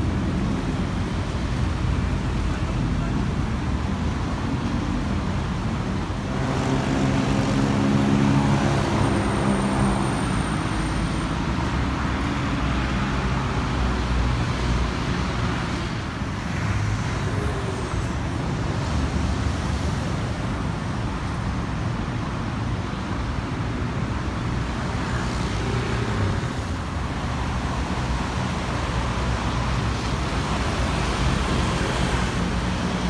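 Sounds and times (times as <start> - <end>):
cars driving past: 3.8 - 22.7, 23.5 - 33.0.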